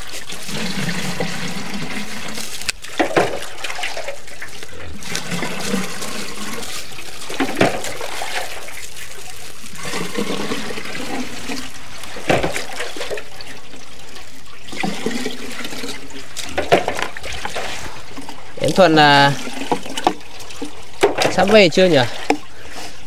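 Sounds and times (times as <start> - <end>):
water running: 0.0 - 23.0.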